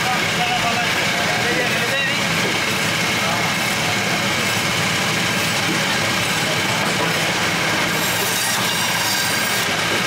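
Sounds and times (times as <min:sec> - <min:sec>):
band saw cutting fish: 0:00.0 - 0:10.0.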